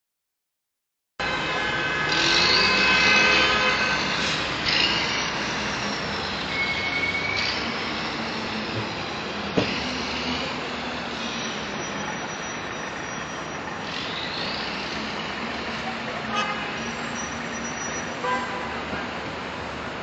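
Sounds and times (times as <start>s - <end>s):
traffic and vehicle engines: 1.2s - 20.0s.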